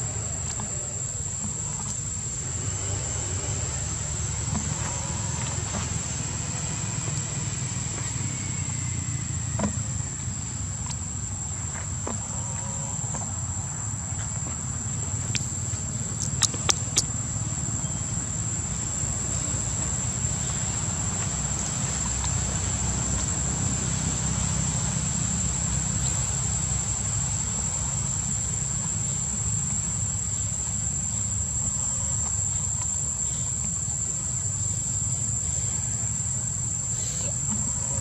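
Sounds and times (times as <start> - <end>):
high-pitched insect drone: 0.0 - 11.5, 12.1 - 38.0.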